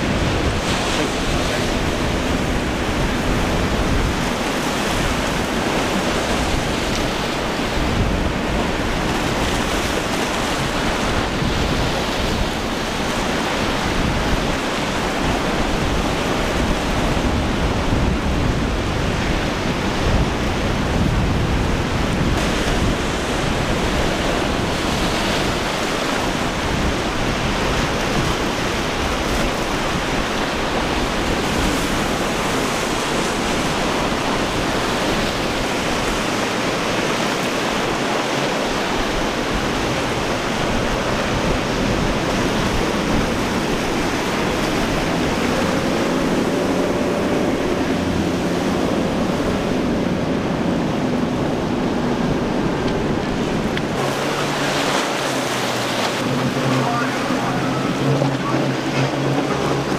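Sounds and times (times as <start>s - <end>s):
waves washing: 0.0s - 59.9s
wind buffeting the microphone: 0.0s - 59.9s.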